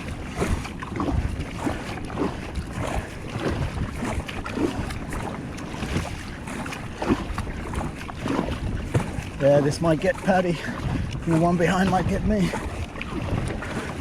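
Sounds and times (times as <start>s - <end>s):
sea water splashing against kayak: 0.0s - 14.0s
wind buffeting microphone: 0.0s - 14.0s.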